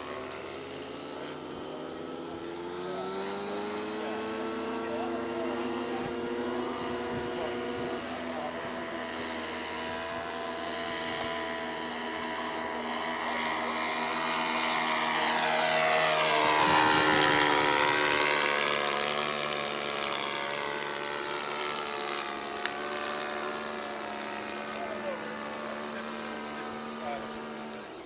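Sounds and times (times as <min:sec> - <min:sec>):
model plane engine passing: 0:00.0 - 0:28.0.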